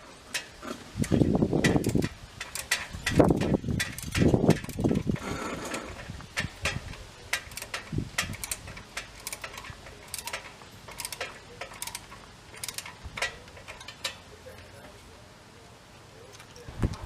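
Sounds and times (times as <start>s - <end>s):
sharp metallic clicks and taps: 0.3s - 14.7s.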